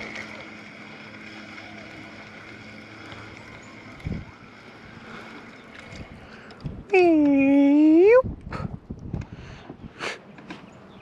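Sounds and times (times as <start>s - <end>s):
motor hum with high whine: 0.0s - 11.0s
light wind noise: 1.8s - 11.0s.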